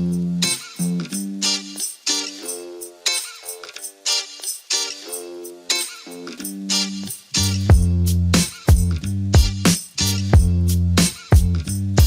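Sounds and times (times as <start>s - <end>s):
plucked melody music: 0.0s - 12.0s.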